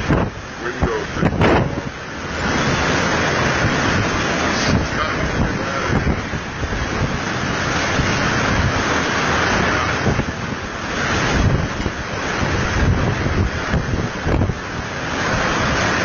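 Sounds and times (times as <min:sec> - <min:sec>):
strong wind against microphone: 0:00.0 - 0:16.0.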